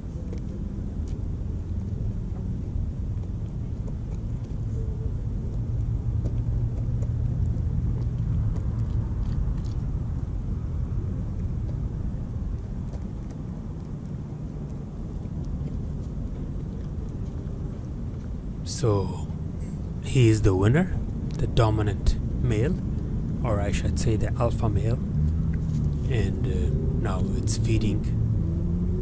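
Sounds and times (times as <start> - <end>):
distant road traffic rumble: 0.0 - 29.0.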